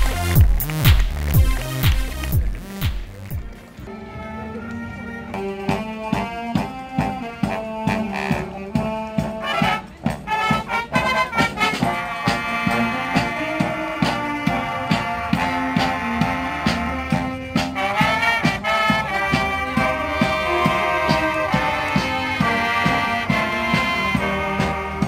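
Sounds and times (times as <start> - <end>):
snare and bass drum beat: 0.0 - 3.5, 5.7 - 25.0
brass band playing: 0.0 - 25.0.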